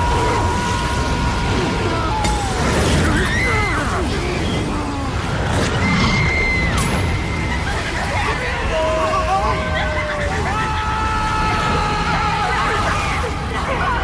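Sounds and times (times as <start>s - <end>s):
low rumble of fire: 0.0s - 14.0s
wailing screaming voices: 0.0s - 14.0s.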